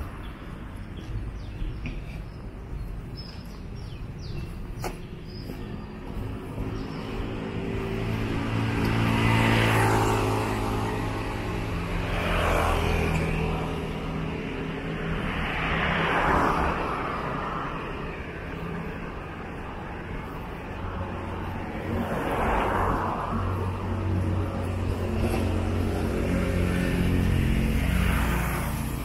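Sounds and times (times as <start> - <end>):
steady engine hum: 0.0 - 29.0
vehicles passing by: 0.0 - 29.0.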